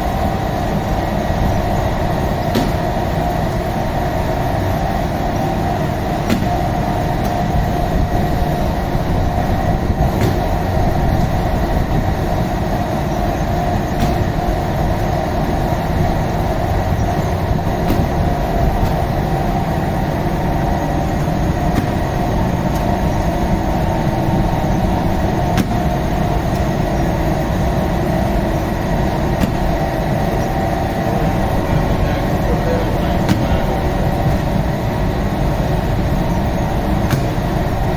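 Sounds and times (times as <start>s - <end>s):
machine rumble with hum: 0.0s - 37.9s.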